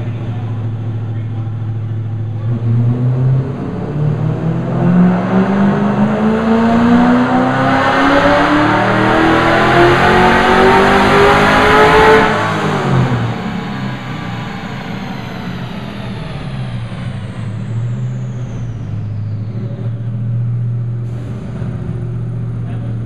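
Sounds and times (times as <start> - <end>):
car engine revving at full throttle: 0.0 - 23.0.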